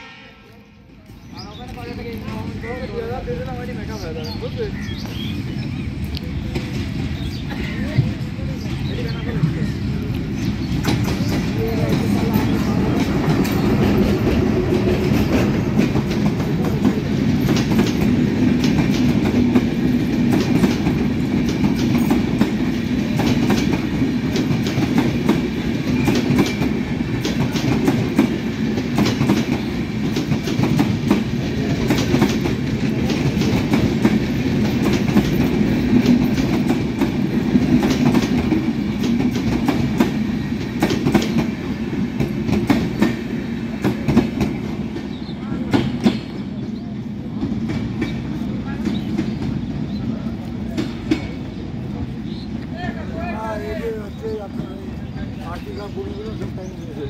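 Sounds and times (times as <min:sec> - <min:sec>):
passenger train passing: 0:00.0 - 0:57.0.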